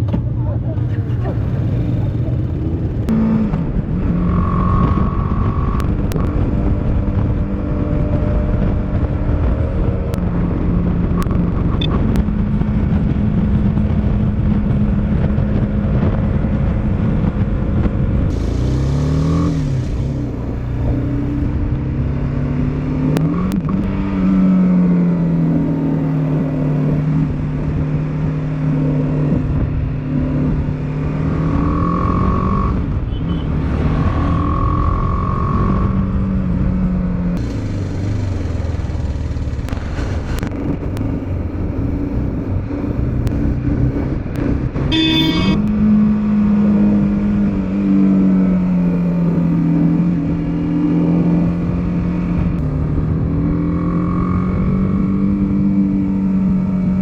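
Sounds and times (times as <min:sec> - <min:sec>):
motorcycle engine running: 0:00.0 - 0:48.3.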